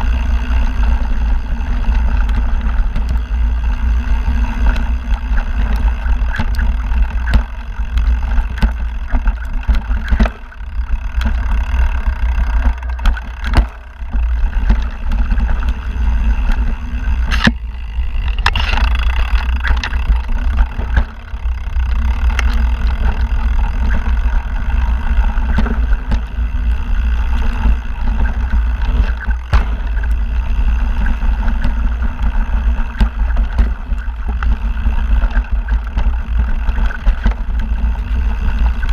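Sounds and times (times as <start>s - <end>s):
bike rattling over rocks: 0.0s - 38.9s.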